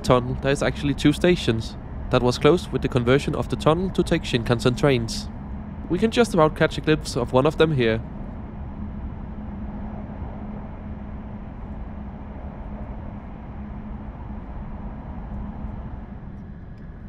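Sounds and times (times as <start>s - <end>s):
train rumbling in tunnel: 0.0s - 17.0s.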